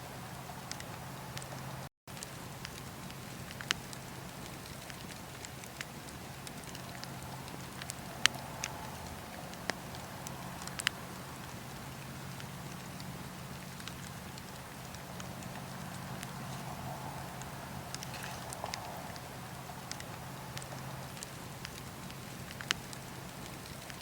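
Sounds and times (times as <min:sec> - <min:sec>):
campfire crackling and popping: 0:00.0 - 0:24.0
low fire rumble: 0:00.0 - 0:24.0.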